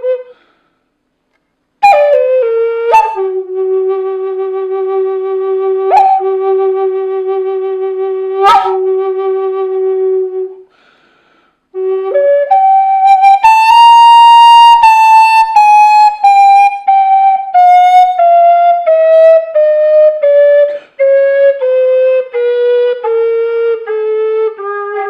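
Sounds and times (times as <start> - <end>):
flute melody: 0.0 - 0.5, 1.8 - 10.7, 11.7 - 25.0.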